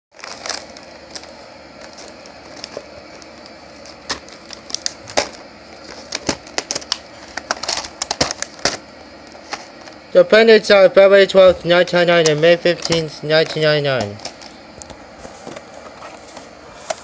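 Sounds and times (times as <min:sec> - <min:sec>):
steady hiss: 0:00.2 - 0:17.0.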